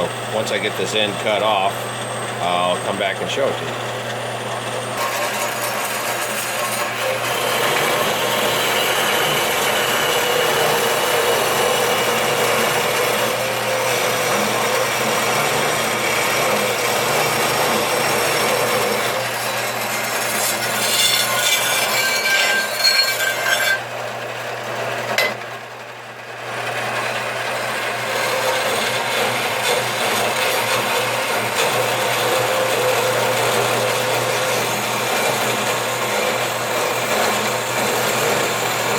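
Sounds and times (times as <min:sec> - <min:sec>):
band saw cutting metal bar: 0:00.0 - 0:38.9.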